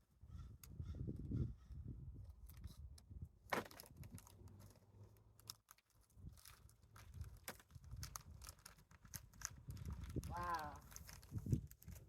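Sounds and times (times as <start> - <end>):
soil crackling and rustling: 2.3 - 12.0.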